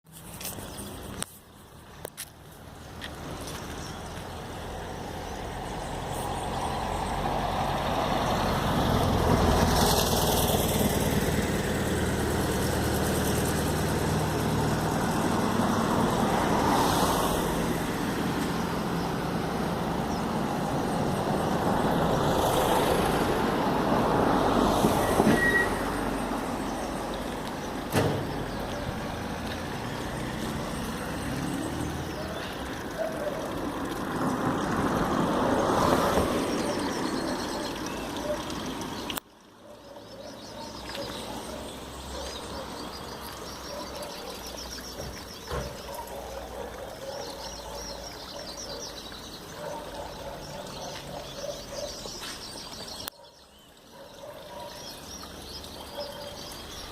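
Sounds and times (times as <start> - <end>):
steady rush of traffic noise: 0.0 - 56.9
vehicles passing: 0.1 - 56.9.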